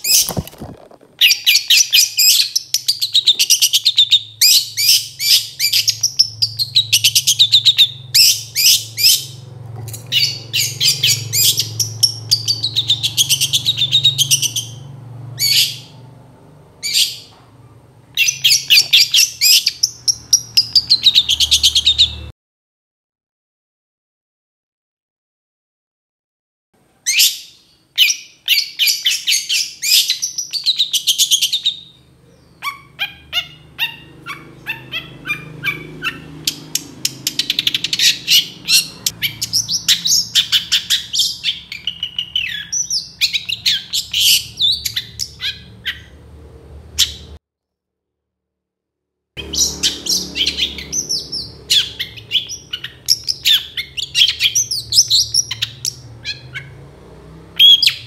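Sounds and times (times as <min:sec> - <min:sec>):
bird chattering song: 0:00.0 - 0:16.0, 0:16.8 - 0:22.3, 0:27.1 - 0:46.2, 0:49.4 - 0:56.8, 0:57.6 - 0:58.0.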